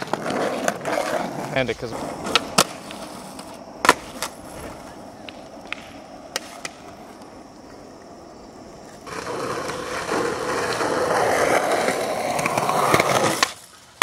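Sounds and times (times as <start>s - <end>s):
skateboard wheels rolling on pavement: 0.0s - 14.0s.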